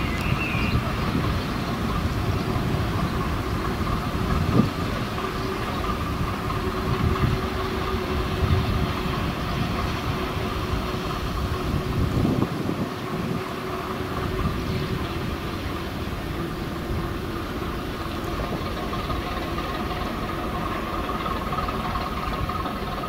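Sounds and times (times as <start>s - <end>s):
diesel locomotive engine: 0.0s - 23.0s
steady whine: 0.0s - 23.0s
train wheels on rails: 0.0s - 23.0s.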